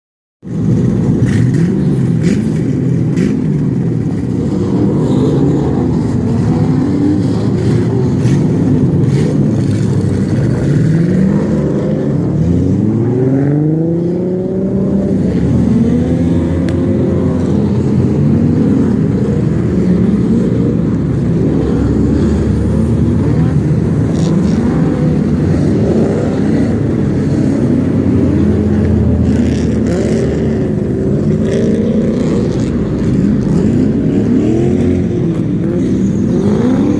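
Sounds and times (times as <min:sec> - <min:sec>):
car engine revving: 0:00.4 - 0:36.9.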